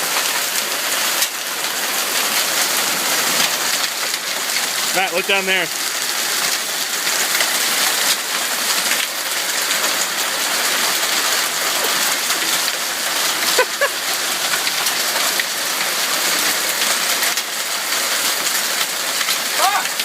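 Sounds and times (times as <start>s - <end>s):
hail and rain pelting down: 0.0s - 20.0s.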